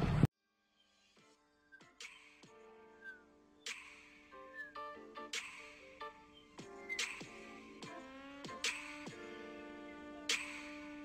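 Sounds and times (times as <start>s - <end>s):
quiet background music: 0.4s - 11.0s.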